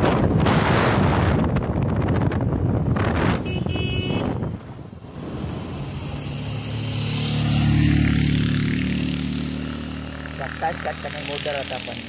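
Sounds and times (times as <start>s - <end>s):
wind rushing over microphone: 0.0s - 10.3s
vehicle engine humming: 1.4s - 12.0s.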